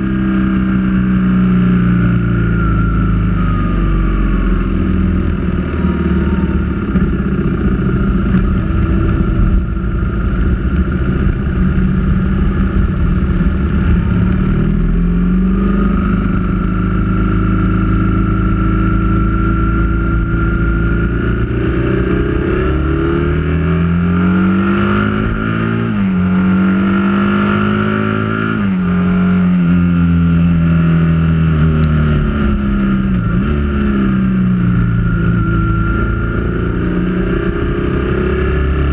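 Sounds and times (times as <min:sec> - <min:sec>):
vehicle engine climbing: 0:00.0 - 0:38.9
wind: 0:00.0 - 0:38.9.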